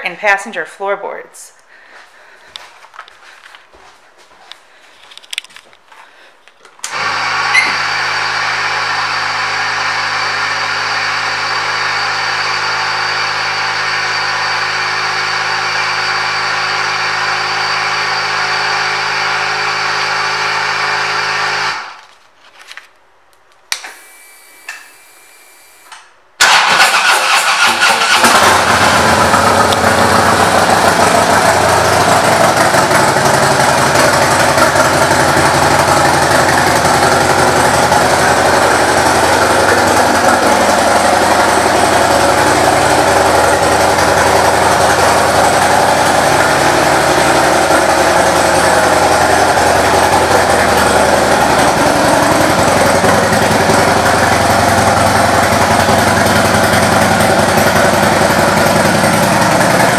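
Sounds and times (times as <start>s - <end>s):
motorcycle engine starting and running: 1.9s - 22.1s, 23.7s - 59.9s.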